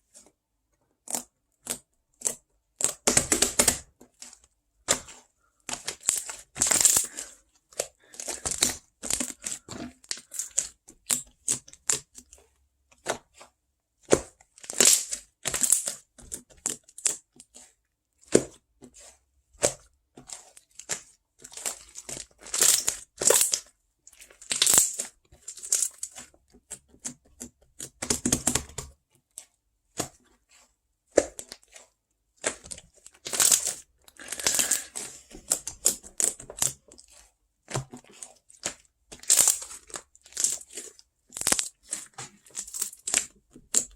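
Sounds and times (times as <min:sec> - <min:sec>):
crinkling and crushing: 0:01.0 - 0:43.9.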